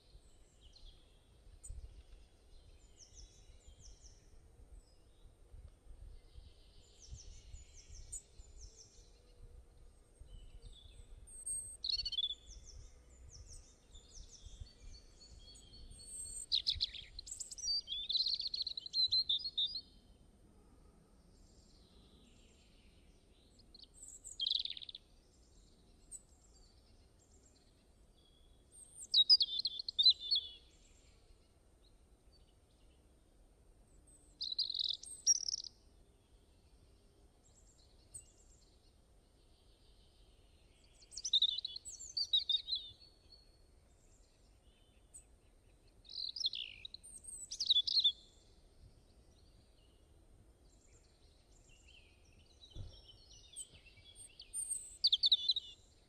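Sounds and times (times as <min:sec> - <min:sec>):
songbirds singing: 0:00.0 - 0:20.4, 0:21.2 - 0:56.0.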